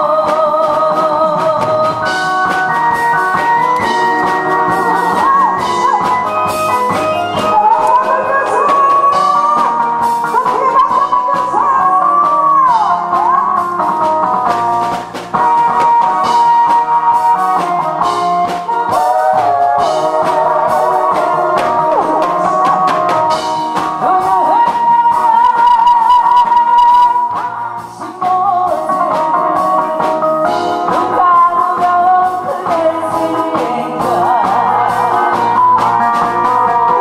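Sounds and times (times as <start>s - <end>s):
woman singing: 0.0s - 14.6s, 15.3s - 37.0s
instrumental backing with drum beat: 0.0s - 37.0s.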